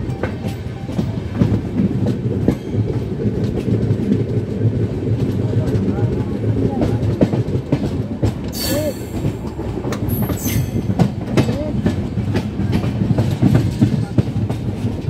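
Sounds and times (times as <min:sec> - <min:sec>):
low train rumble: 0:00.0 - 0:15.0
train wheels clattering: 0:00.0 - 0:15.0.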